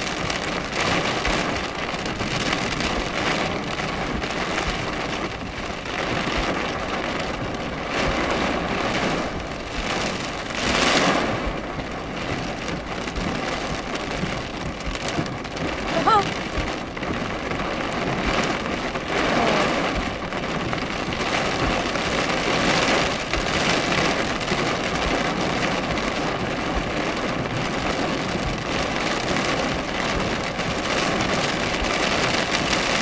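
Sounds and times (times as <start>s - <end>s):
rain on car roof: 0.0s - 33.0s.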